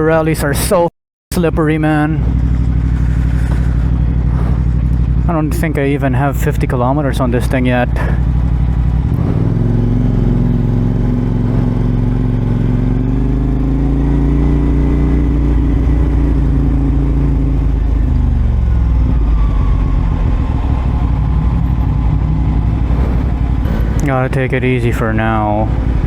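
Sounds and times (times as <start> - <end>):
motorcycle engine running: 1.3 - 26.0.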